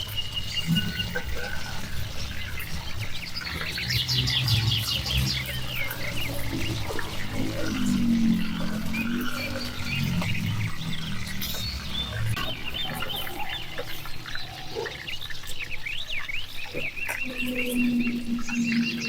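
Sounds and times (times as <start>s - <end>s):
low pitched animal calls: 0.0s - 19.0s.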